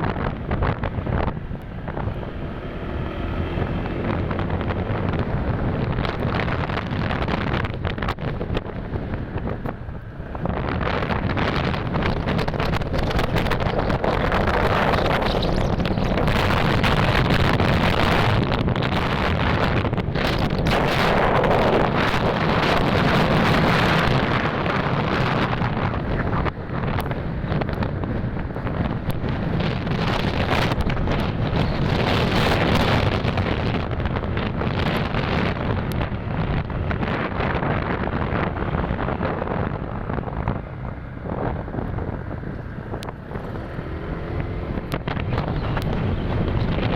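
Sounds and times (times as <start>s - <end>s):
motorcycle engine and road noise: 0.0s - 46.9s
wind buffeting microphone: 0.0s - 46.9s.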